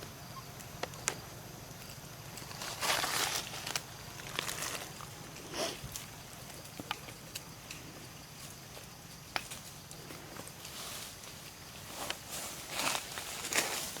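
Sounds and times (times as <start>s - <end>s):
low steady hum: 0.0s - 13.9s
rustling: 0.6s - 14.0s.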